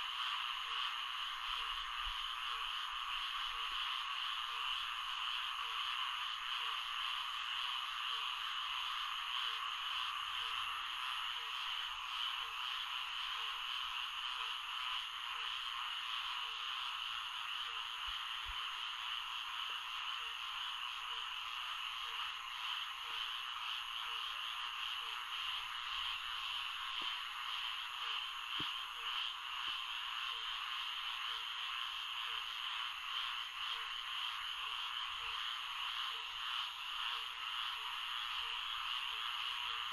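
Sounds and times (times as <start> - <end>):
chorus of frogs: 0.0 - 39.9.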